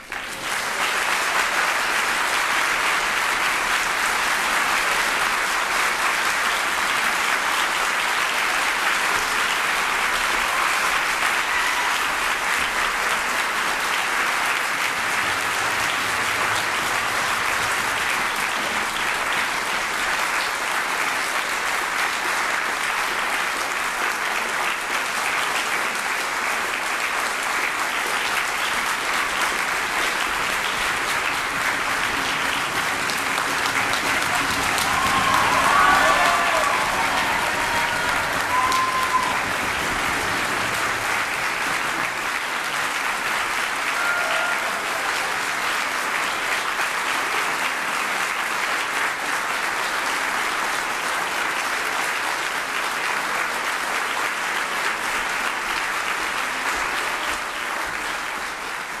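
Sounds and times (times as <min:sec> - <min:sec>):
audience applause: 0:00.0 - 0:59.0.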